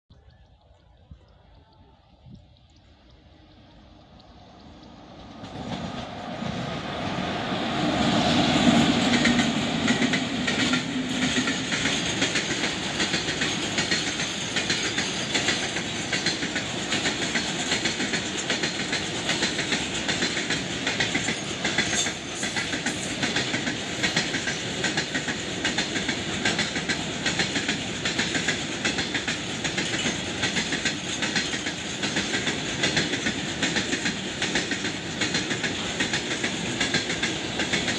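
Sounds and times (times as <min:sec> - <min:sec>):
freight train passing: 0:02.9 - 0:37.9.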